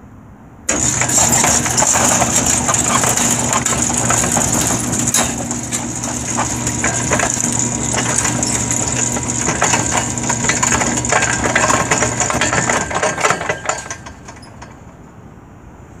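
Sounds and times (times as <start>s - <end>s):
gate motor humming: 0.7s - 14.8s
gate clattering and rattling: 0.7s - 15.0s.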